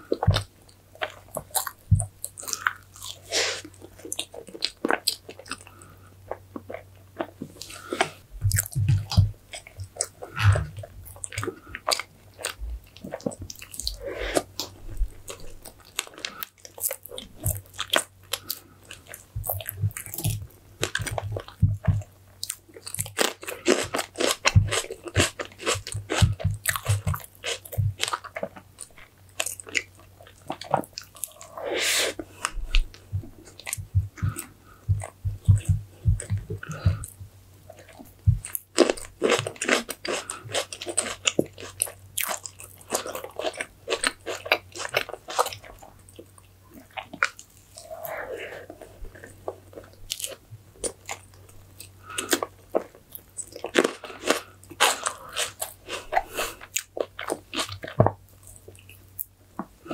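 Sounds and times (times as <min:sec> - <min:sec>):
chewing crunches: 0:00.0 - 0:59.9.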